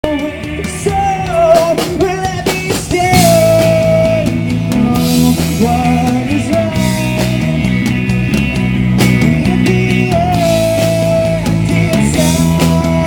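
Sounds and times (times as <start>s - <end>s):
drums: 0.0s - 13.0s
electric guitar: 0.0s - 13.0s
man singing amplified: 0.0s - 13.0s.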